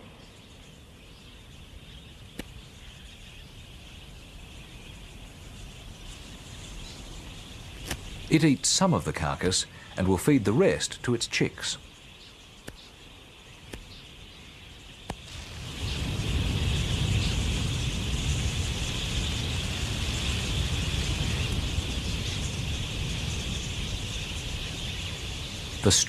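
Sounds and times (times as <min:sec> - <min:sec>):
flock of budgerigars chattering: 0:00.3 - 0:26.0.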